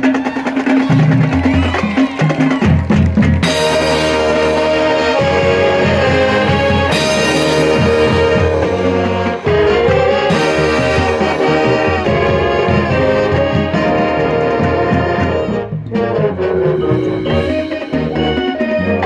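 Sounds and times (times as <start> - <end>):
marching band playing: 0.0 - 19.0
brass sustained chords: 3.4 - 19.0.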